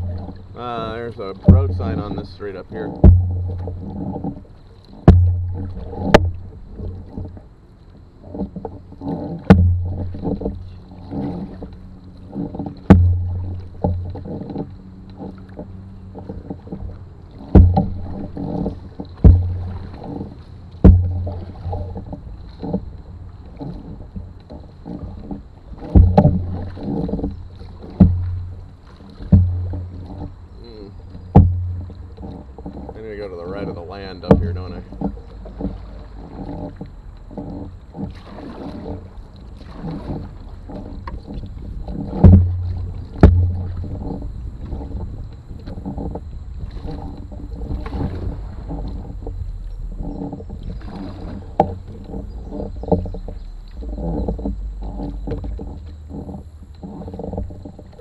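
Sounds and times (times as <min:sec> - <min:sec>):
paddle knocking canoe hull: 0:00.0 - 0:58.0
water noise: 0:00.0 - 0:58.0.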